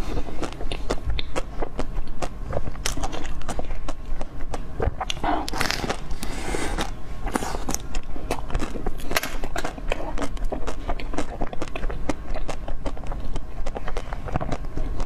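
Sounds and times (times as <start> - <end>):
biting and chewing sweet: 0.0 - 15.0.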